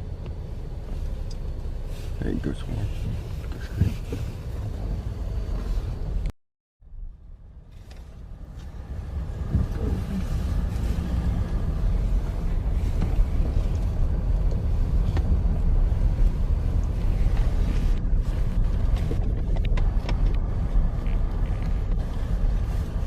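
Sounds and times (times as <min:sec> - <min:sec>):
low vehicle rumble: 0:00.0 - 0:23.0.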